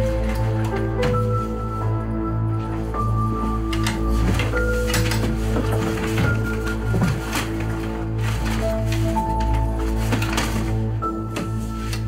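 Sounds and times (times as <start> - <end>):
music with held low notes: 0.0 - 12.0.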